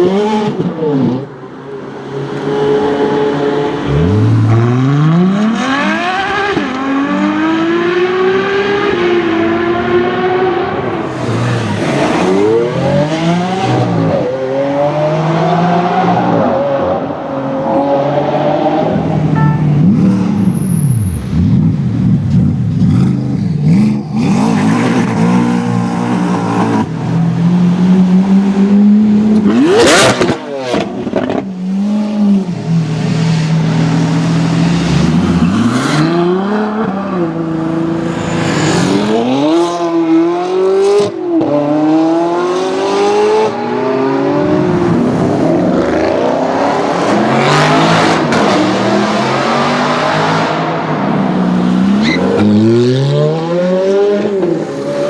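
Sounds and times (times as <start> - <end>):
sports car engines revving: 0.0 - 55.0.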